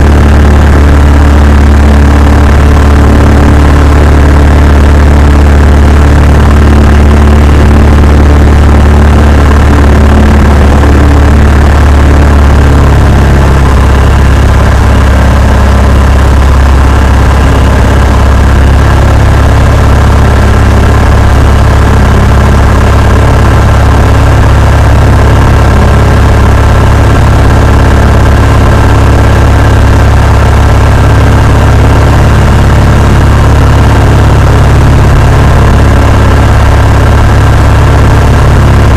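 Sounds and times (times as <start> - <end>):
light aircraft engine and propeller: 0.0 - 38.9.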